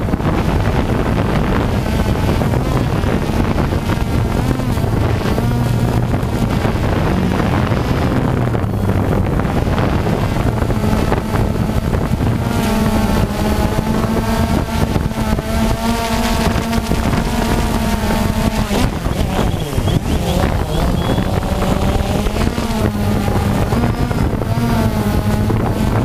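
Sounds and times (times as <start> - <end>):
drone propellers buzzing: 0.0 - 26.0
wind rushing over microphone: 0.0 - 26.0.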